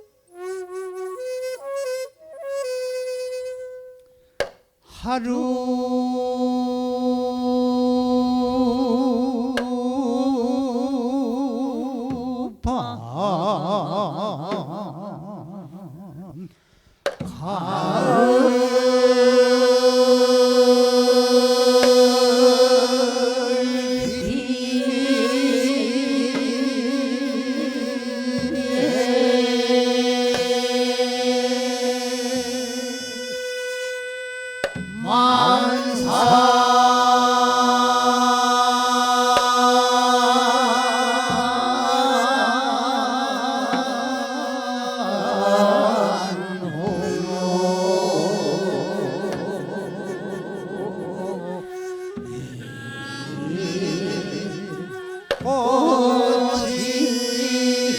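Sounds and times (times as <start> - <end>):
mixed chorus singing: 5.0 - 15.8, 17.1 - 57.9.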